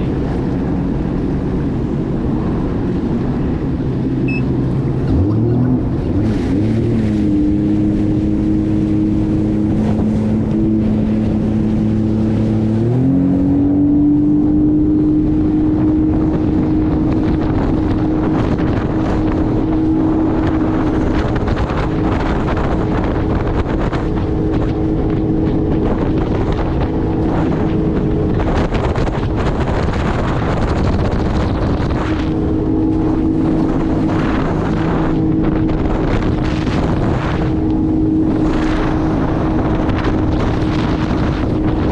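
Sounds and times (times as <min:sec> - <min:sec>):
jet ski engine revving: 0:00.0 - 0:41.9
wind noise on microphone: 0:00.0 - 0:41.9.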